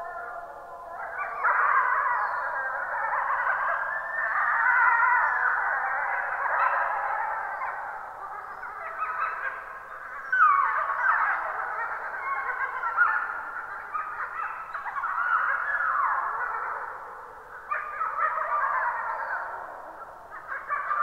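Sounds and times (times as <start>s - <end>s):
wolves howling in chorus: 0.0s - 21.0s.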